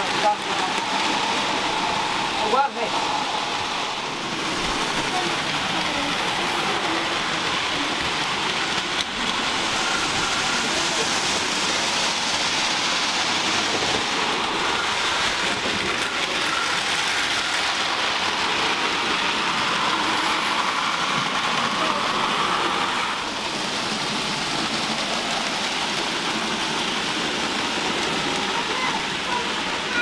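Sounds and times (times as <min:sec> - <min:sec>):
model train wheels rattling on track: 0:00.0 - 0:30.0.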